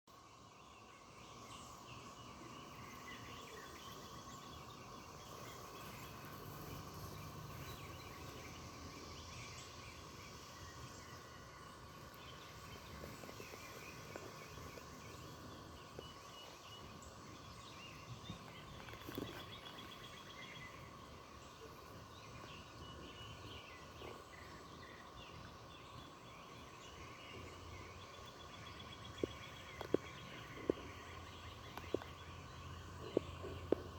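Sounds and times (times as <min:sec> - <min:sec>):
bird chirps: 0:00.8 - 0:33.9.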